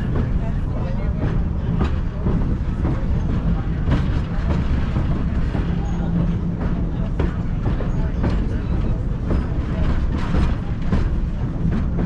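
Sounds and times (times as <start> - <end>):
train rumbling over rails: 0.0 - 12.0.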